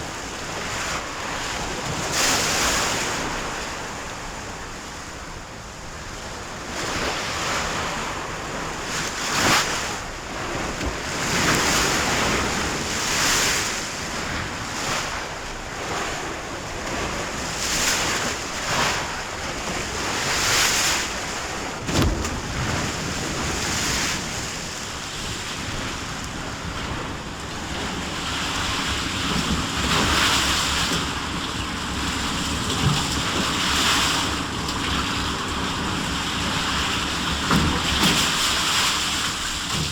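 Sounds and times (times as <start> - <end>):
sea waves washing in: 0.0 - 39.9
wind: 0.0 - 39.9.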